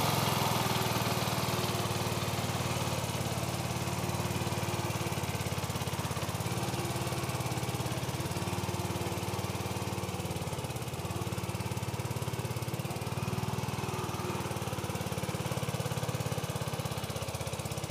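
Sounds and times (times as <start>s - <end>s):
garden tractor engine under load: 0.0s - 17.9s.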